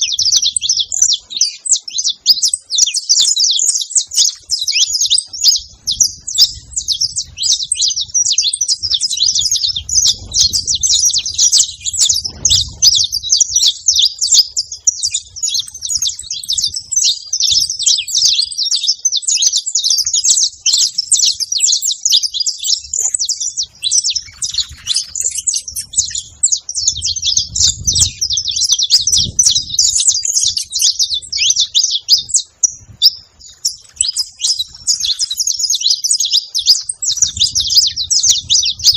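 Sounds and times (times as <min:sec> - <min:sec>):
finches singing: 0:00.0 - 0:38.9.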